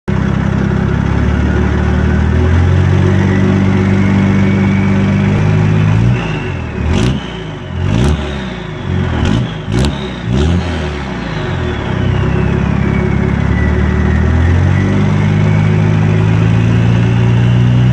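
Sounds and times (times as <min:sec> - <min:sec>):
turbocharged engine pulling: 0:00.1 - 0:17.9
turbo whistle: 0:01.3 - 0:17.9.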